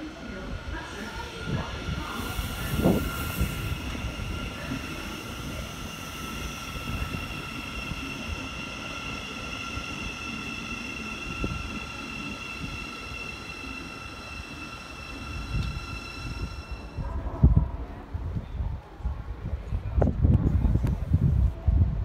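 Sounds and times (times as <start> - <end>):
electric train whine: 0.0 - 18.3.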